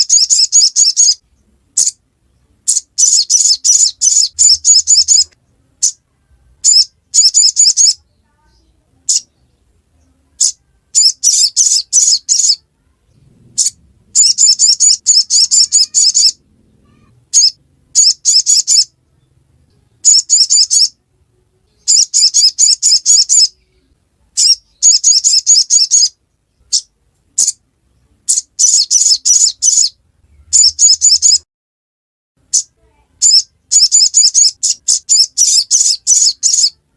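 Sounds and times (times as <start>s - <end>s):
bird rapid high chirps: 0.0s - 6.0s, 6.6s - 9.6s, 10.4s - 12.6s, 13.4s - 19.4s, 20.0s - 21.0s, 21.8s - 23.8s, 24.4s - 27.6s, 28.2s - 31.4s, 32.4s - 36.8s.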